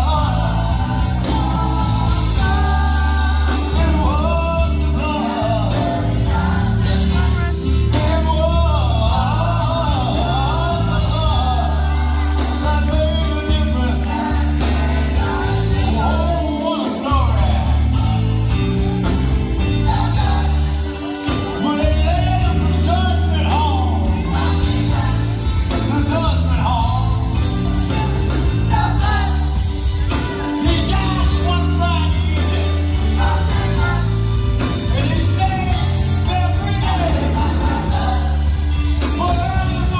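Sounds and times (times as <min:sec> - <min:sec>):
gospel choir singing with band: 0:00.0 - 0:39.9
steady bass line: 0:00.0 - 0:39.9.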